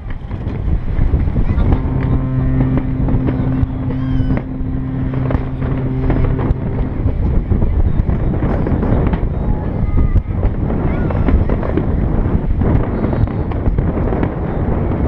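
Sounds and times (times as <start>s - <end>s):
steady low drone: 0.0s - 15.0s
wind on microphone: 0.0s - 15.0s.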